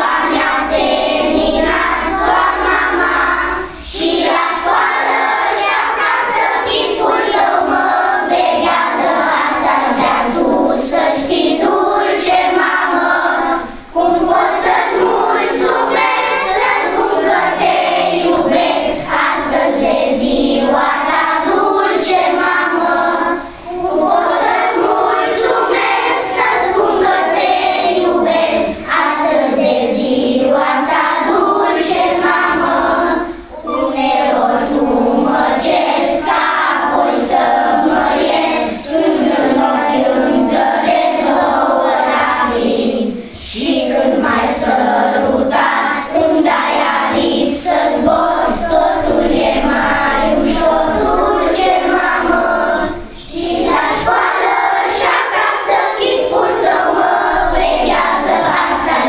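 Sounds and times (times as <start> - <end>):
children singing in chorus: 0.0 - 59.0.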